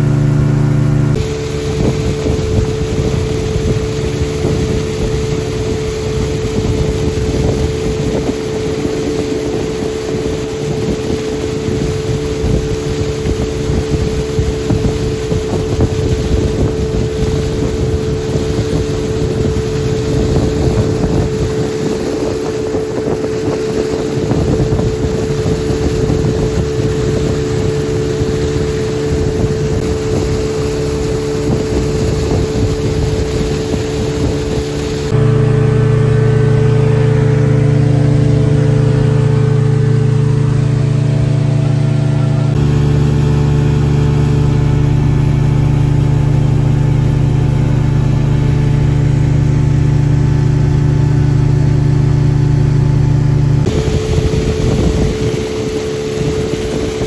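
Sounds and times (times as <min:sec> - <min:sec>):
speedboat engine drone: 0:00.0 - 0:57.0
water spray rushing along hull: 0:00.0 - 0:57.0.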